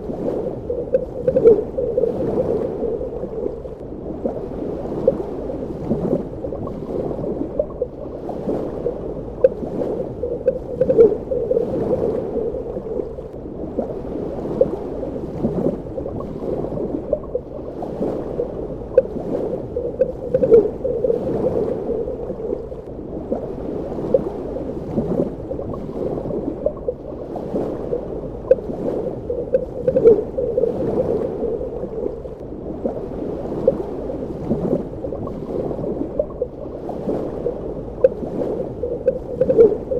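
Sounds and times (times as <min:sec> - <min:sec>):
muffled underwater rush: 0:00.0 - 0:39.9
underwater pops and gurgles: 0:00.0 - 0:39.9.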